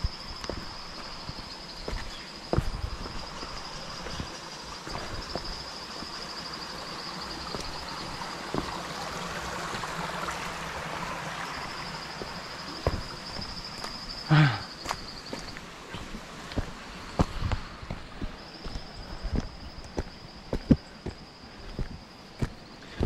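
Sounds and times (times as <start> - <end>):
footsteps on forest trail: 0.0 - 23.0
insect high-pitched trill: 0.0 - 23.0.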